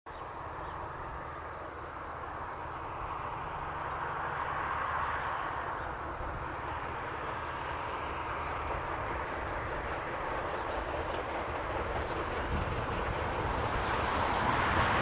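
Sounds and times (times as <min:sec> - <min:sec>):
distant steam locomotive rushing: 0:00.1 - 0:15.0.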